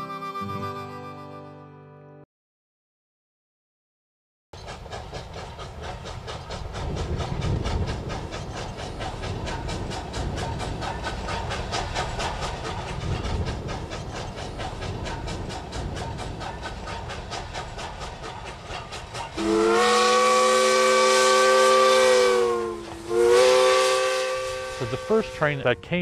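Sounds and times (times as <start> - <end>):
steady steam hiss: 4.6 - 26.0
steam locomotive chuffing: 4.6 - 26.0.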